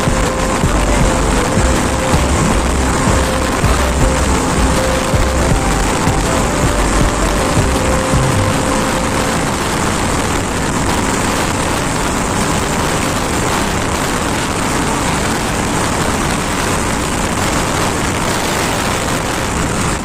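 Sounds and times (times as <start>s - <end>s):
wind rushing on microphone: 0.0s - 20.0s.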